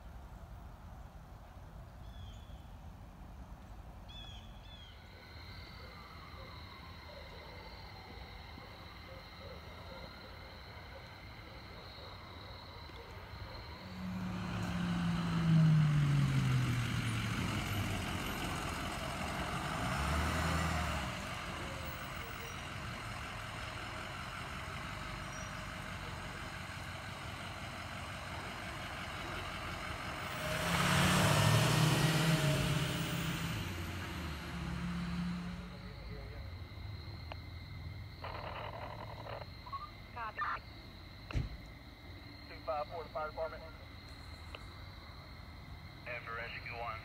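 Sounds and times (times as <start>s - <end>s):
fire truck engine driving past: 4.6s - 47.0s.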